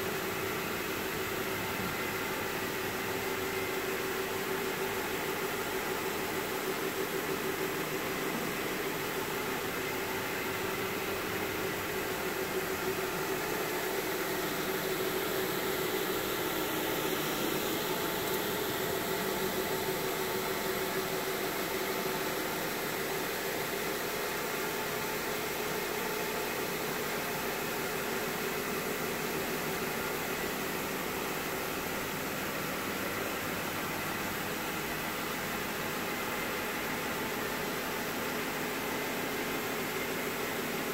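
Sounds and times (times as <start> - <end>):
carpet scrubbing machine running: 0.0 - 40.9.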